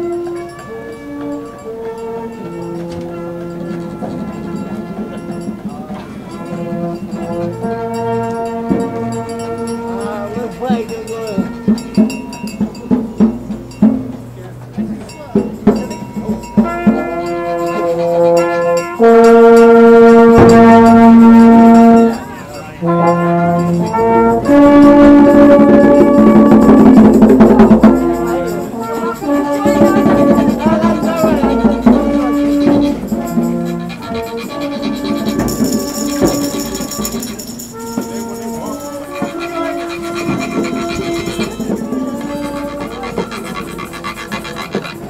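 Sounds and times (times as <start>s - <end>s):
brass band marching and playing: 0.0s - 45.0s
sharp percussion knocks: 2.4s - 45.0s.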